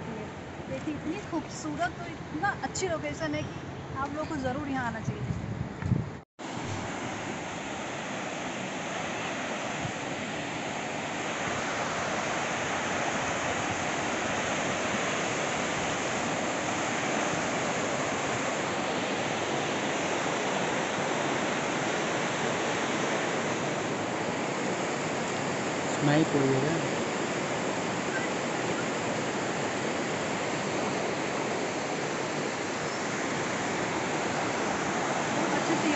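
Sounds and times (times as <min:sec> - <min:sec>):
river rushing over rapids: 0:06.4 - 0:35.9.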